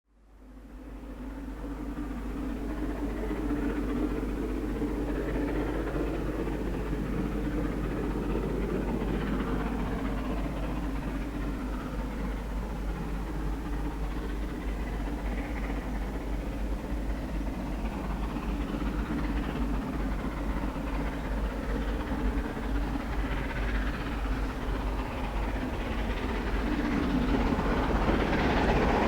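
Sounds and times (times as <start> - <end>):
steam locomotive rumbling: 0.9 - 29.0.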